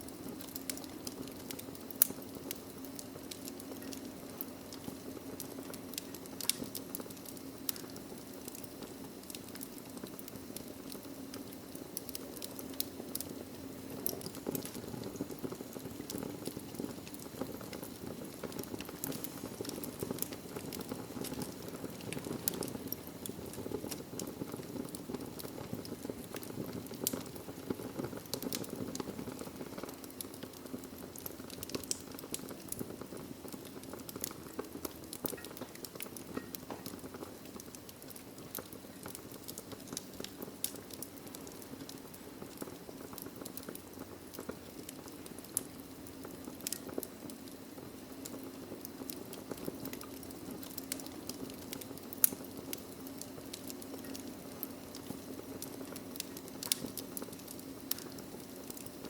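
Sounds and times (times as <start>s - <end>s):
fire burning: 0.0s - 59.0s
wood crackling and popping: 0.0s - 59.0s.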